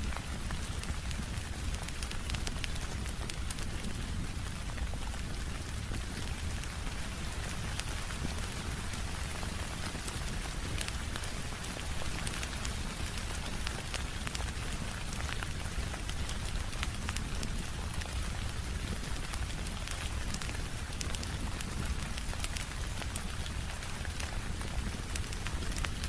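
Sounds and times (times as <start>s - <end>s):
steady rain hiss: 0.0s - 26.0s
wood fire crackling: 0.0s - 26.0s.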